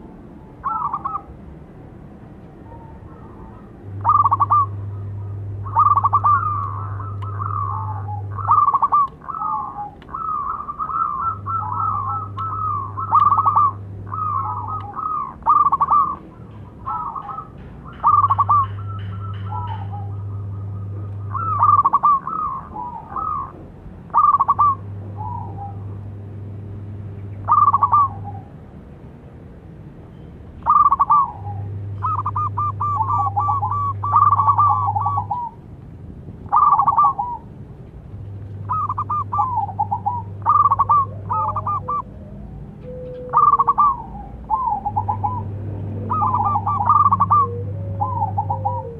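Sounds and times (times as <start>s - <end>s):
doves cooing: 0.0s - 1.5s, 2.6s - 26.6s, 27.3s - 28.7s, 30.6s - 35.7s, 36.4s - 48.9s
low steady hum: 0.0s - 48.9s.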